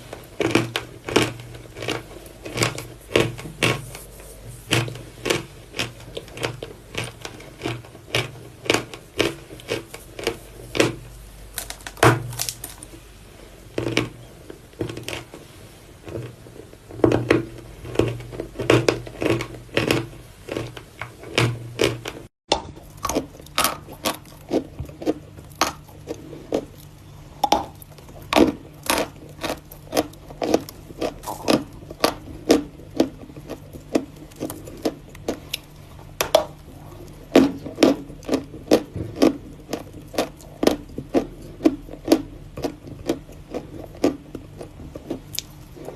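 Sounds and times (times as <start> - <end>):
chalk being chewed crunching: 0.1 - 13.0, 17.2 - 22.2, 22.8 - 45.9.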